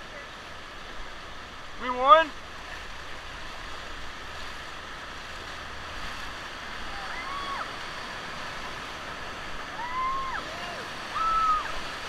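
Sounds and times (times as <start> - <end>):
river whitewater rushing over rocks: 0.0 - 12.0.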